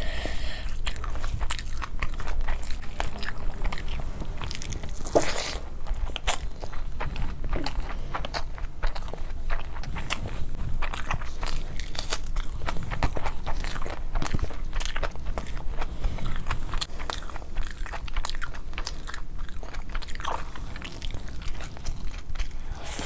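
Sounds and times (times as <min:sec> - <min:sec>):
chewing with wet mouth clicks: 0:00.6 - 0:23.0.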